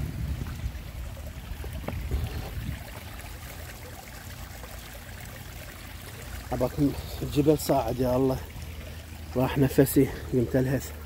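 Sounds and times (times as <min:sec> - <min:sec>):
water feature trickling: 0:00.0 - 0:11.0.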